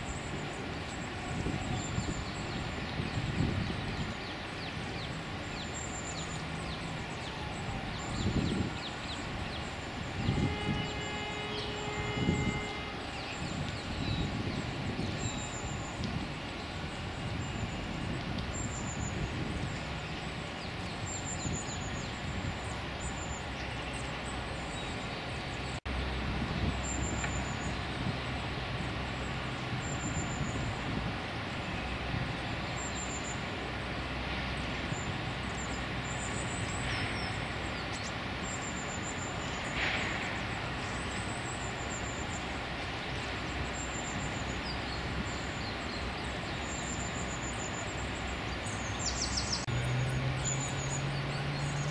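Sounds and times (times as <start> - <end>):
distant road traffic rumble: 0.0 - 51.9.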